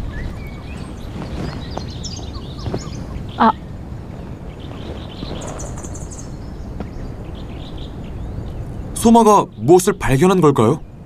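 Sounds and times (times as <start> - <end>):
birds chirping: 0.0 - 11.0
steady low background: 0.0 - 11.0.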